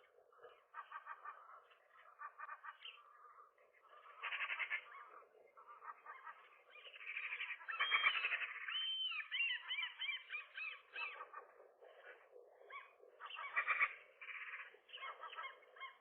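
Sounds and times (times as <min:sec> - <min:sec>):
gulls calling: 0:00.0 - 0:16.0.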